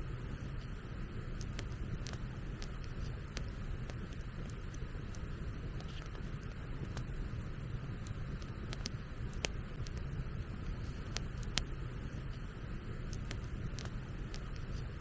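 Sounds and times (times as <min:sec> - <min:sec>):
bonfire crackling and popping: 0:00.2 - 0:15.0.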